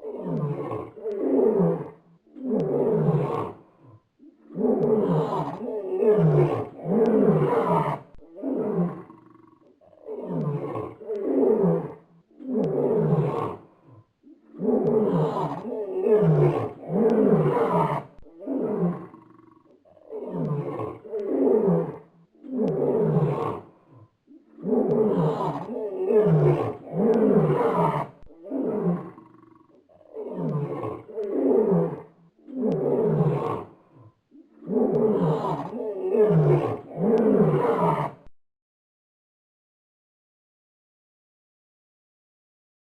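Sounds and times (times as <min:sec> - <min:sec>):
lion roaring: 0:00.0 - 0:38.3.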